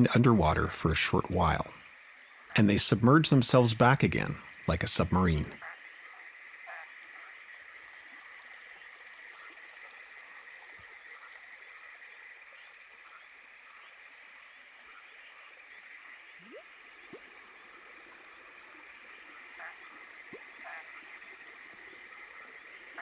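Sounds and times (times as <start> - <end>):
stream trickling and gurgling: 0.0 - 23.0.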